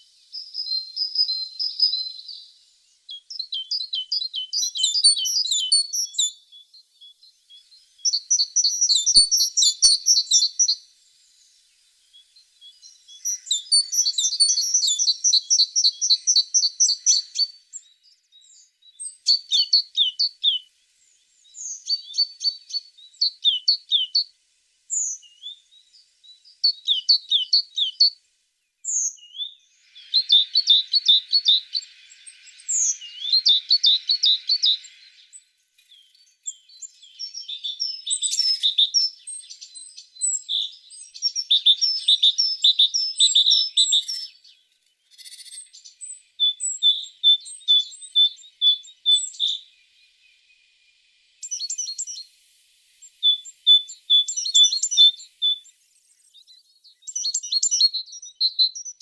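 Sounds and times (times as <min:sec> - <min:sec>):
bird trilling song: 0:00.0 - 0:52.3, 0:53.0 - 0:59.0
bird chirps: 0:00.0 - 0:59.0.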